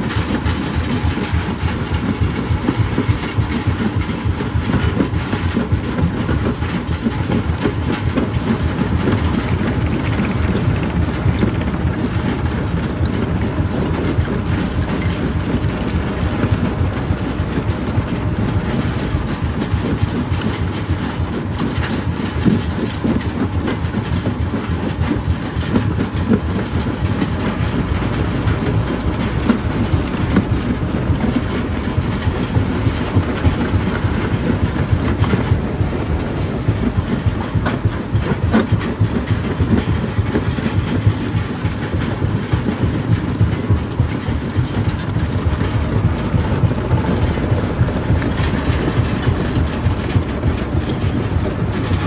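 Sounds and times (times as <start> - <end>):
machine low rumble: 0.0 - 52.0.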